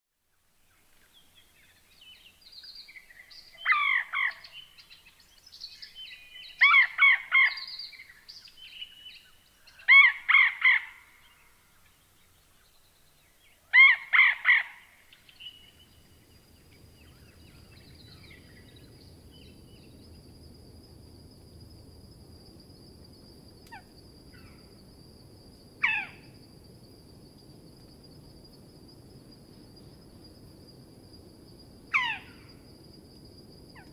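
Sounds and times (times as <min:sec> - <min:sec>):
low hiss: 0:00.2 - 0:06.6, 0:07.6 - 0:14.1, 0:14.7 - 0:33.9.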